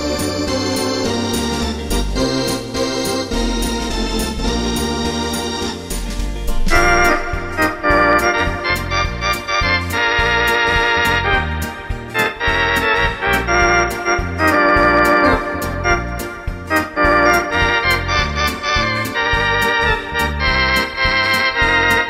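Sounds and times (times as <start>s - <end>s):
electronic organ playing chords: 0.0s - 22.0s
organ percussion beat ticking: 0.0s - 22.0s.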